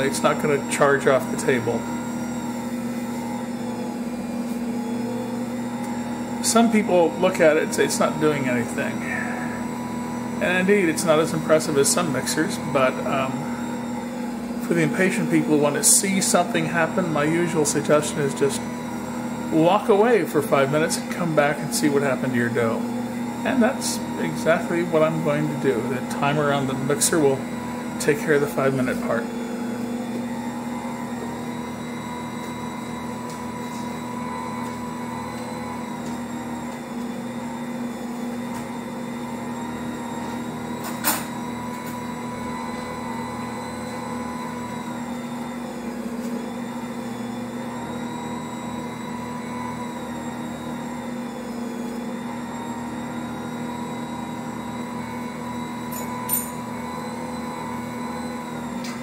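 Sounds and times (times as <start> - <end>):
stand mixer humming: 0.0 - 59.0.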